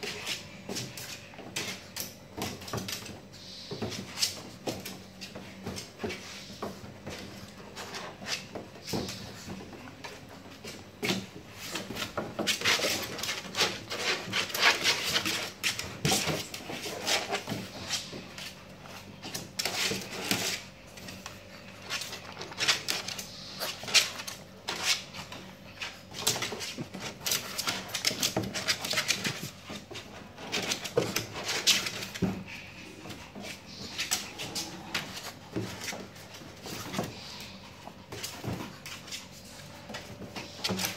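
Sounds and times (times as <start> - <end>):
puppy sounds: 0.0 - 40.9.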